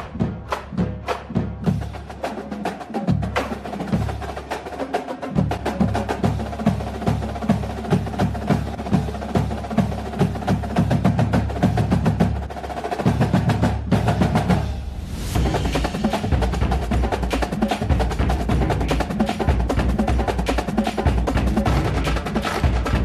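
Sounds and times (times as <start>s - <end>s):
percussion-heavy dance music: 0.0s - 23.0s.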